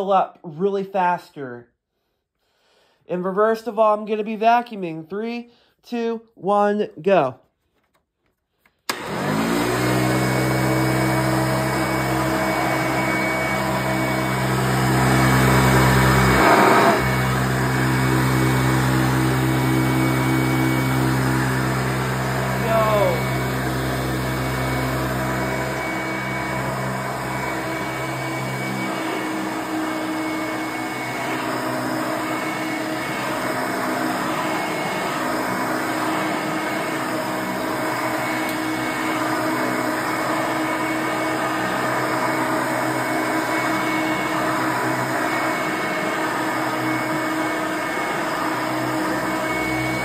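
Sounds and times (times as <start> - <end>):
vacuum cleaner running: 8.9 - 50.0.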